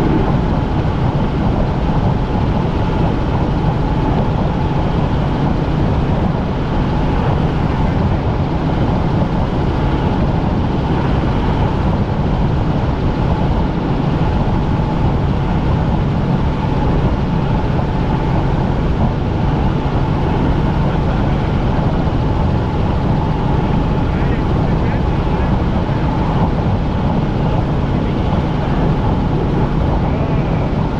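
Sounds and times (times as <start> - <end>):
helicopter engine and rotors drone: 0.0 - 30.9
thin steady whine: 0.0 - 30.9.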